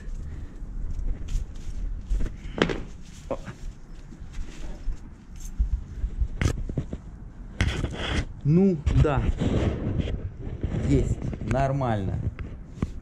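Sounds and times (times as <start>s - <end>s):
sharp knocks and crinkles: 0.9s - 13.0s.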